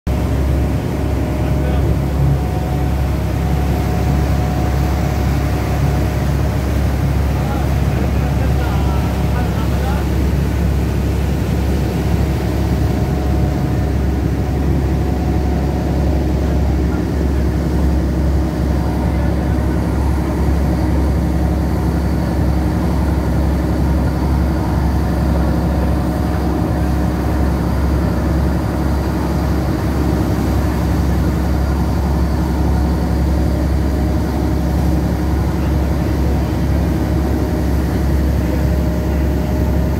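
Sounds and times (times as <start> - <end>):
boat engine droning: 0.1 - 39.9.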